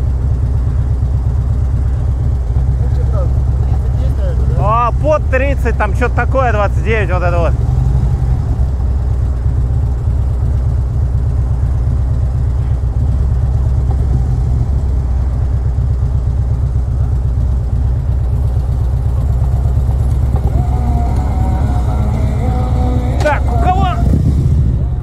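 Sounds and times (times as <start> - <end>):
motorcycle idling: 0.0 - 25.0.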